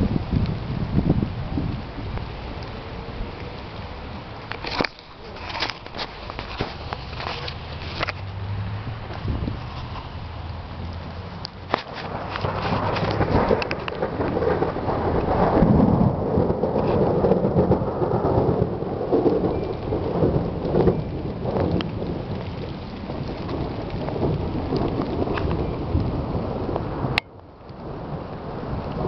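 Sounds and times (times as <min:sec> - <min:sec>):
rolling thunder rumble: 0:00.0 - 0:05.5, 0:06.3 - 0:29.0
rain falling: 0:00.0 - 0:29.0.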